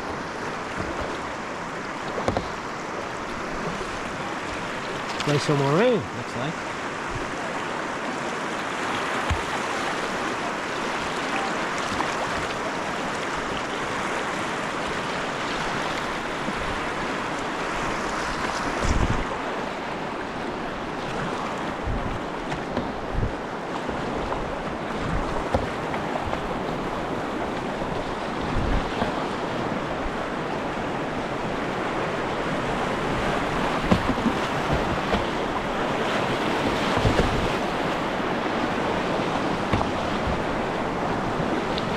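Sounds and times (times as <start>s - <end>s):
river current rushing and splashing: 0.0s - 41.9s.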